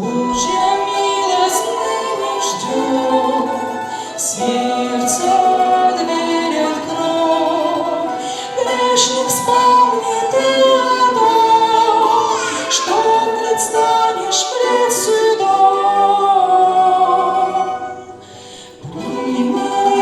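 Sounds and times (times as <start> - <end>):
women singing a hymn: 0.0 - 20.0.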